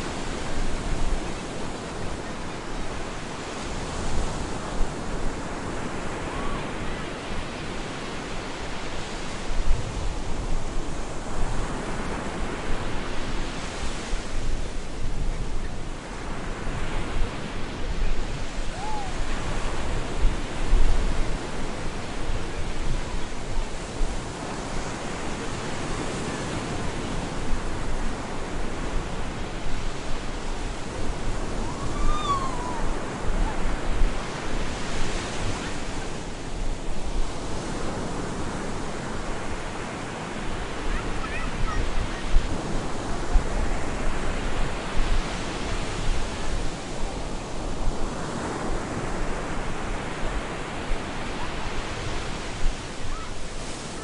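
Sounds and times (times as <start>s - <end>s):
stormy surf breaking on a beach: 0.0s - 54.0s.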